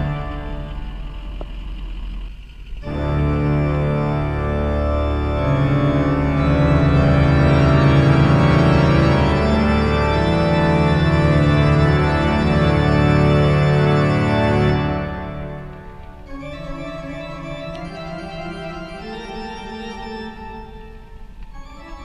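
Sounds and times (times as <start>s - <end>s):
organ playing slow chords: 0.0s - 22.0s.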